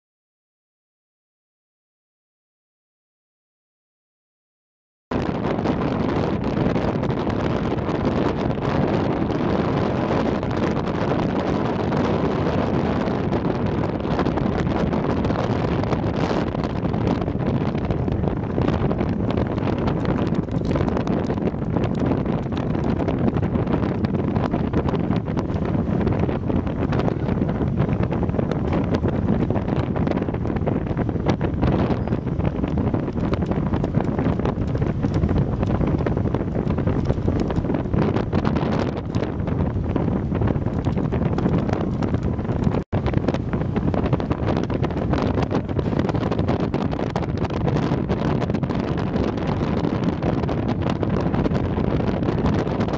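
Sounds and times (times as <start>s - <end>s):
wind blowing across microphone: 5.1s - 52.9s.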